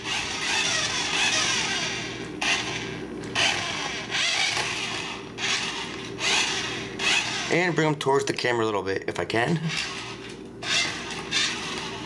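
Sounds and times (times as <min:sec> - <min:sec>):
toy car motor whirring: 0:00.0 - 0:07.7, 0:09.7 - 0:12.0.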